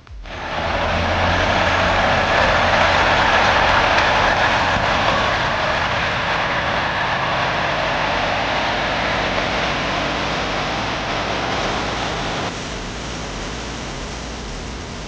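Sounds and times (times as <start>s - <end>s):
turbocharger whine: 0.0s - 15.0s
heavy engine running under load: 0.3s - 15.0s.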